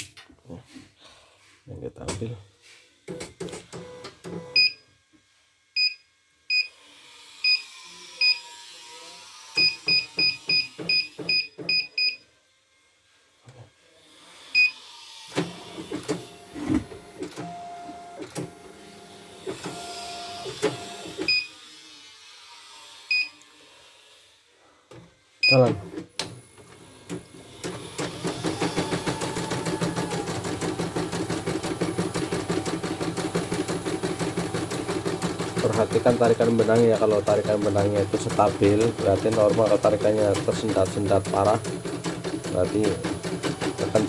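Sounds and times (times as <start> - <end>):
machine motors whirring: 6.7 - 11.8, 13.4 - 44.0.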